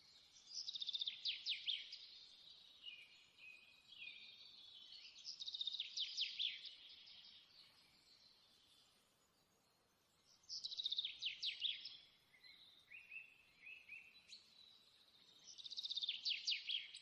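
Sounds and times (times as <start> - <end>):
soft bird twittering: 0.3 - 17.0.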